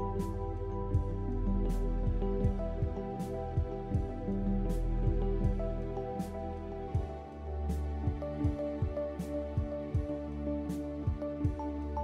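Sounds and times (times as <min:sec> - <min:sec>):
background music with low beat: 0:00.0 - 0:12.0.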